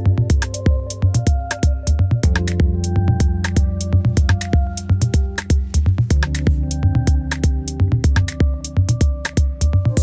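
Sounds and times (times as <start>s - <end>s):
low kick drum thumps: 0.0s - 10.0s.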